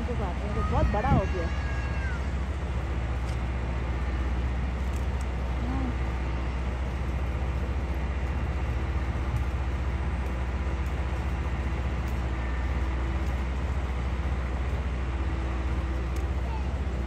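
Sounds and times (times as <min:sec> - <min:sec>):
diesel engine drone: 0:00.0 - 0:17.0.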